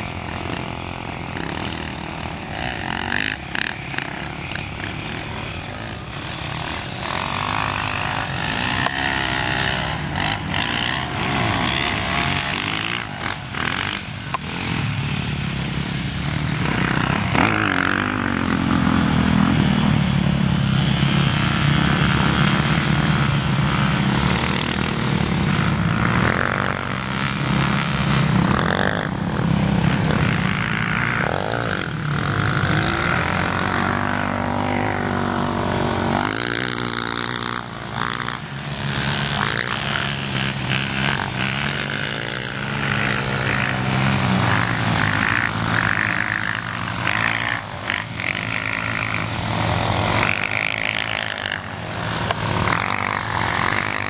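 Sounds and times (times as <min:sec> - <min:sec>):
quad engines revving: 0:00.0 - 0:54.0.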